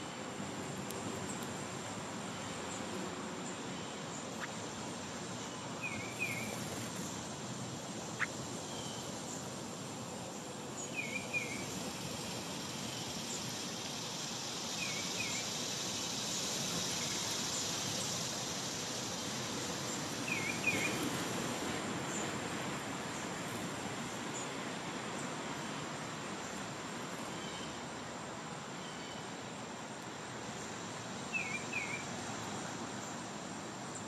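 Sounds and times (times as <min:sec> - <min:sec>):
high insect-like whine: 0:00.0 - 0:34.0.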